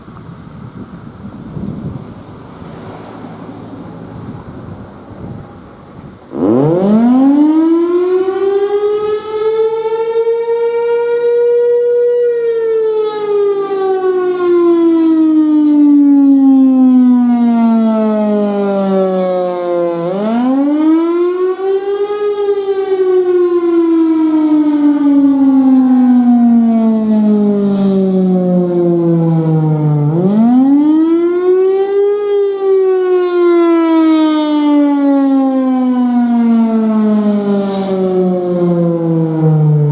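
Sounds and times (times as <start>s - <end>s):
outdoor warning siren wailing: 1.0s - 39.9s.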